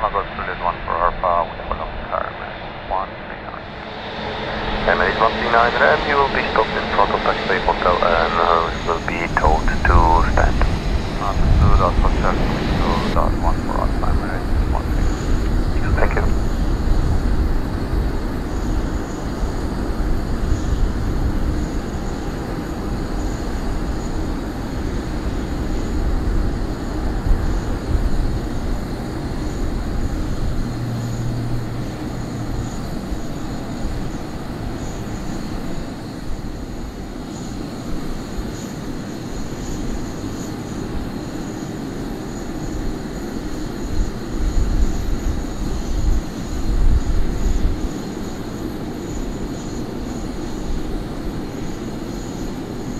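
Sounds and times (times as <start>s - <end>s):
jet engines rumbling: 0.0s - 52.9s.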